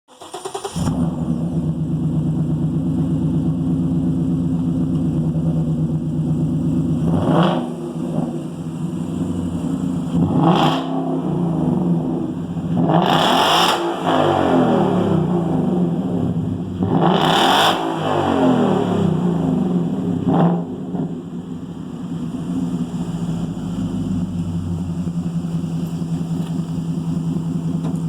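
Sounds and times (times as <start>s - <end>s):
car engine idling and revving: 0.1s - 28.0s.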